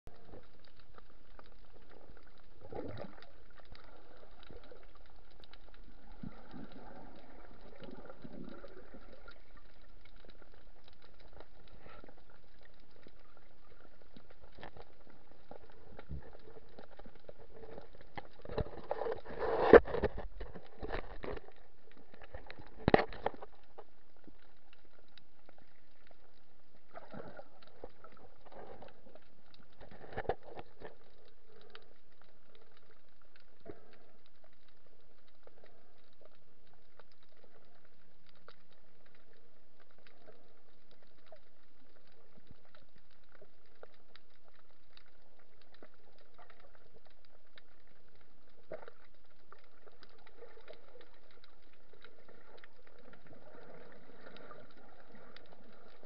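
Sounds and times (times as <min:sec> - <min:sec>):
faint bubbling: 0:00.1 - 0:56.0
muffled underwater hiss: 0:00.1 - 0:56.0.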